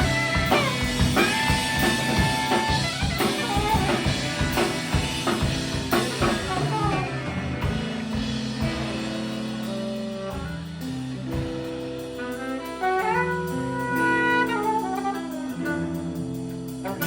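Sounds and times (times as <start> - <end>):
live band playing instrumental jazz: 0.0 - 17.0.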